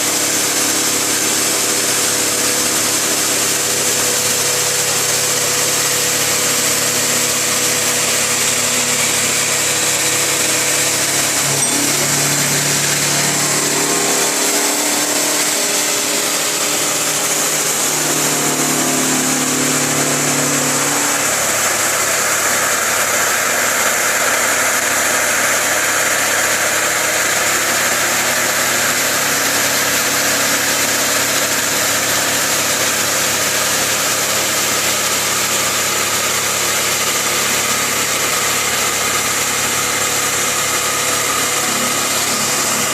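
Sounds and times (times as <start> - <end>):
milling machine cutting steel: 0.0 - 42.9.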